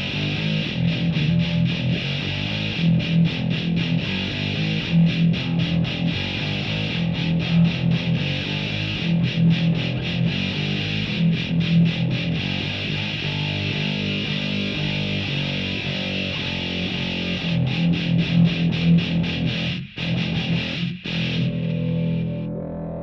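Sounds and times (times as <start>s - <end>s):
distorted electric guitar riff: 0.0s - 23.0s.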